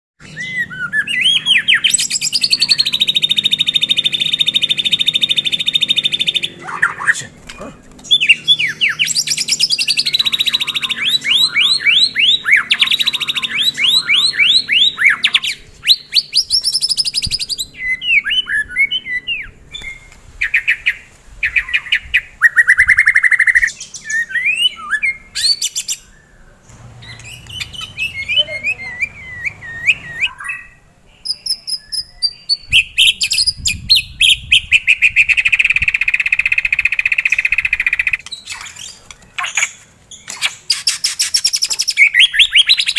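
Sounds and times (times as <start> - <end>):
songbird trilling rapidly: 0.5 - 26.1, 27.0 - 42.9.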